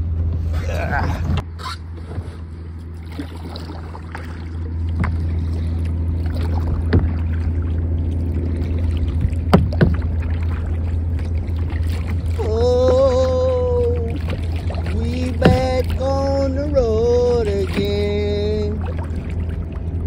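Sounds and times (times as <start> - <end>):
low water rumble: 0.0 - 20.0
water knocking against hull: 3.0 - 20.0.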